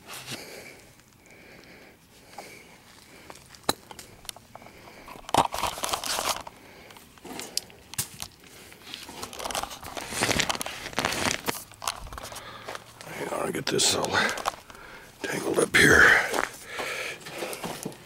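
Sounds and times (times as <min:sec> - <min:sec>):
wires rustling in conduit: 0:00.0 - 0:18.0.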